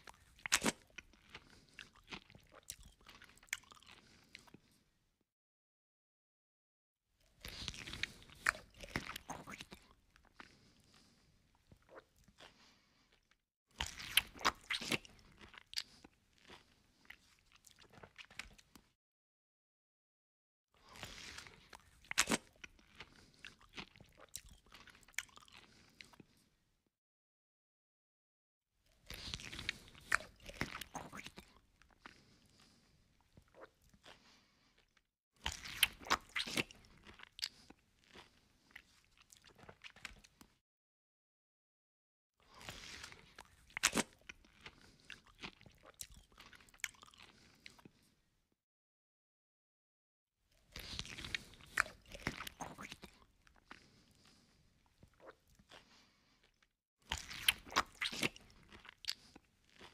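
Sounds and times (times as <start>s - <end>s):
person chewing rice crunchily: 0.0s - 4.8s, 7.2s - 18.9s, 20.8s - 26.4s, 28.9s - 40.6s, 42.5s - 48.1s, 50.5s - 59.9s.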